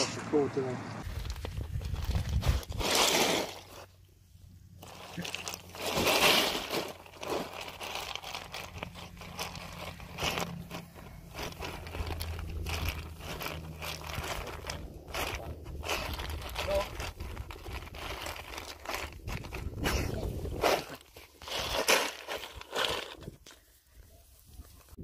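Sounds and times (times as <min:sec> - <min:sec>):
ice cubes crunching and clattering: 0:01.0 - 0:03.9, 0:04.8 - 0:23.6.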